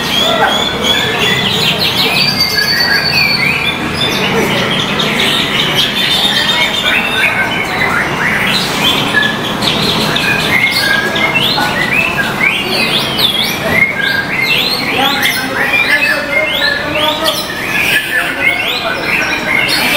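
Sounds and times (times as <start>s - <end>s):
birds singing whistled phrases: 0.0s - 19.9s.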